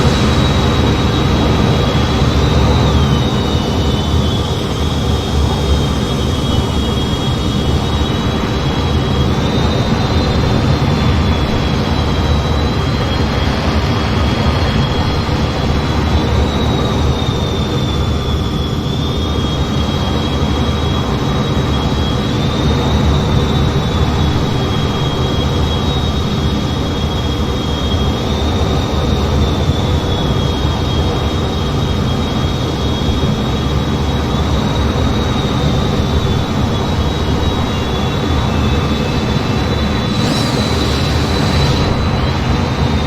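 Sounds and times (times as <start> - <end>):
high whine: 0.0 - 43.0
jet engine rumble: 0.0 - 43.0.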